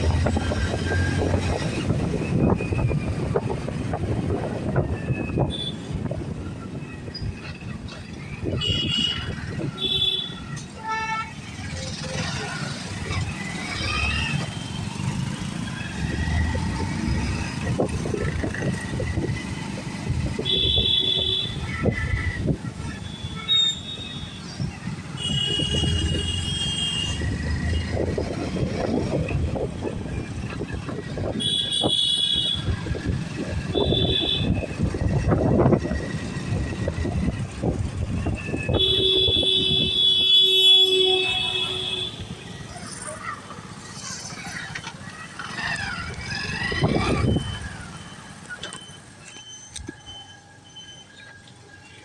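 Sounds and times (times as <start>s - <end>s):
road traffic engines: 0.0s - 52.0s.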